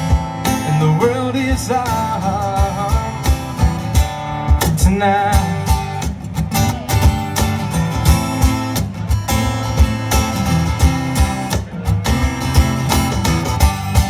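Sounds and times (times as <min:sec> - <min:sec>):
bass: 0:00.0 - 0:14.0
steady drum beat: 0:00.0 - 0:14.0
strummed acoustic guitar: 0:00.0 - 0:14.0.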